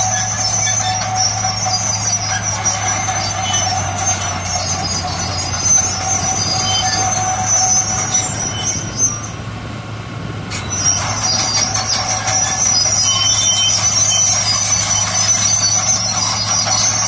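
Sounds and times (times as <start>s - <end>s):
metallic track squealing: 0.0s - 9.5s, 10.5s - 17.0s
heavy machine engine hum: 0.0s - 17.0s.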